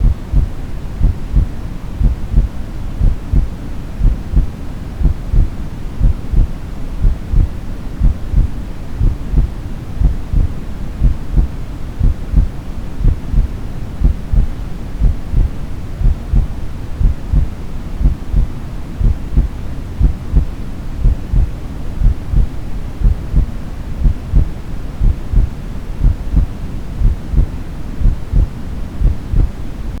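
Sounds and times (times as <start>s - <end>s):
artificial heartbeat thumps: 0.0s - 29.6s
low white noise hum: 0.0s - 30.0s.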